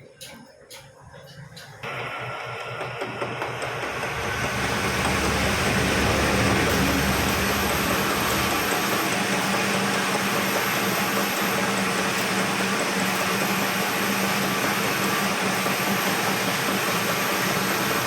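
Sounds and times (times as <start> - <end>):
milling machine motor humming: 1.1 - 18.0.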